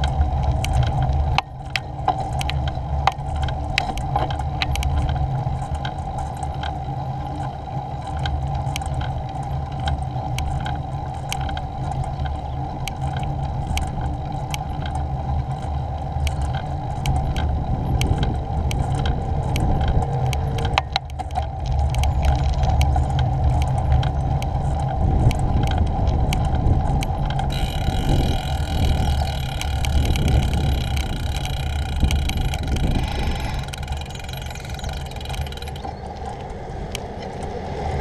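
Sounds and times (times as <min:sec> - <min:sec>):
bicycle tyre rumble: 0:00.0 - 0:38.0
bike clicks and rattles: 0:00.0 - 0:38.0
wind buffeting: 0:00.0 - 0:38.0.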